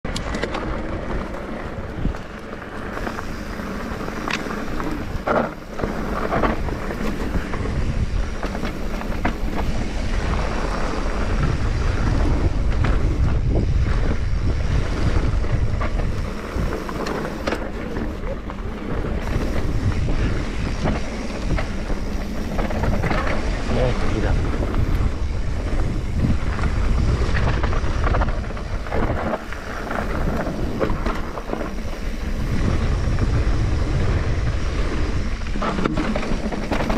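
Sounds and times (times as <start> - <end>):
bike rattling: 0.1 - 36.9
wind buffeting microphone: 0.1 - 36.9
tyres rumbling: 0.2 - 36.9.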